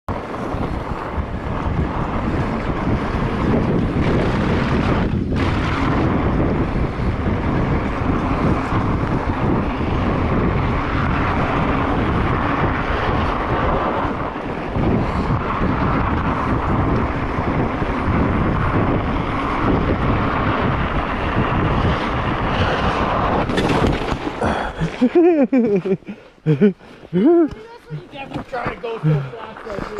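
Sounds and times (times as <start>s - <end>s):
bike tyres rolling: 0.1s - 29.9s
wind buffeting microphone: 0.1s - 29.9s.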